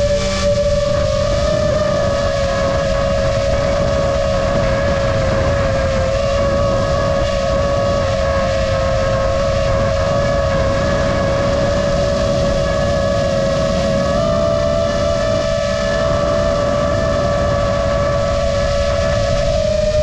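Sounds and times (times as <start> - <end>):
drone motors whining: 0.0 - 20.0
wind rumble on microphone: 0.0 - 20.0.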